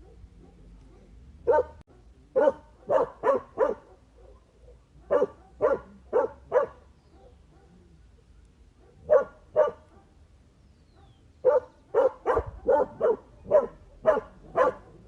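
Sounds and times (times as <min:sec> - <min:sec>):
dog barking: 0:00.0 - 0:07.9, 0:08.8 - 0:10.2, 0:10.9 - 0:15.0.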